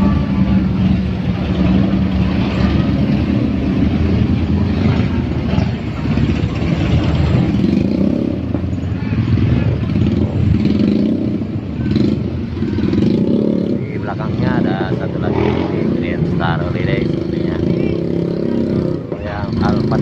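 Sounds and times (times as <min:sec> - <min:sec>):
bus diesel engine passing: 0:00.0 - 0:17.0.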